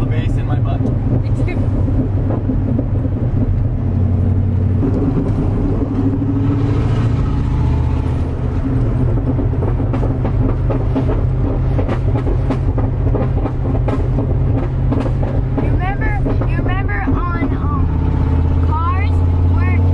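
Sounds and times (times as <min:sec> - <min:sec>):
exhaust pops and crackles: 0:00.0 - 0:19.9
loud deep engine drone: 0:00.0 - 0:19.9.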